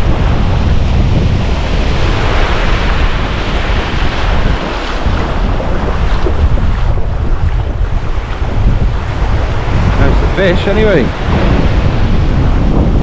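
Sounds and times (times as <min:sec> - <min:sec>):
small surf breaking on beach: 0:00.0 - 0:13.0
wind buffeting microphone: 0:00.0 - 0:13.0.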